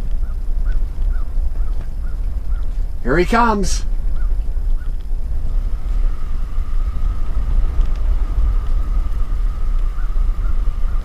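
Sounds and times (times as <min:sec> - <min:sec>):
faint high whine: 0:00.0 - 0:11.0
low rumble: 0:00.0 - 0:11.0.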